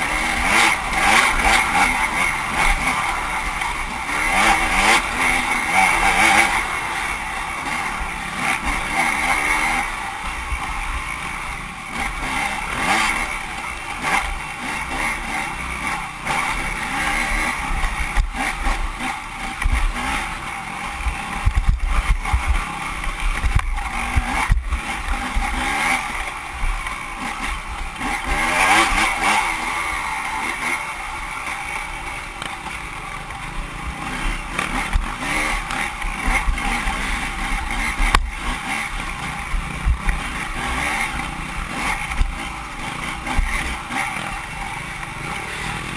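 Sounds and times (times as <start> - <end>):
off-road motorcycle engine: 0.0 - 45.9.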